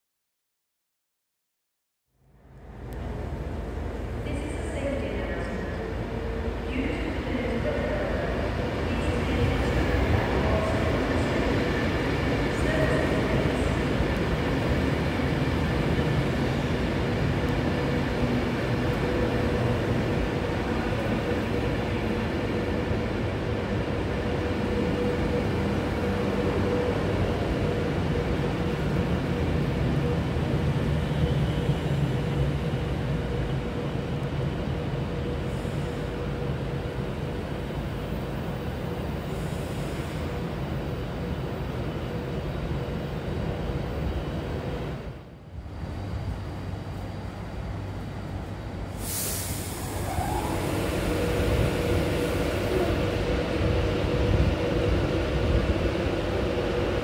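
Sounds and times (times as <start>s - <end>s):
train running hum: 2.4s - 57.0s.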